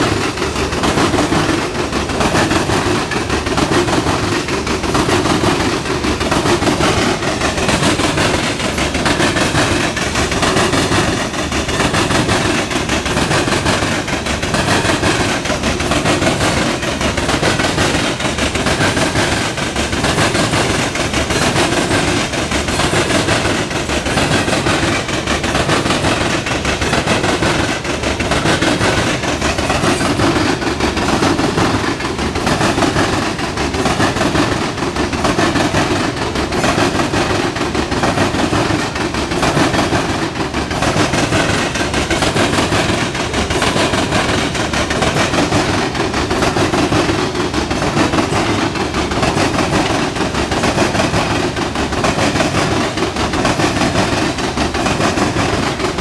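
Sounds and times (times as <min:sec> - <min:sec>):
freight train wheels on rails: 0:00.0 - 0:56.0
sharp wheel clacks on track: 0:00.0 - 0:56.0.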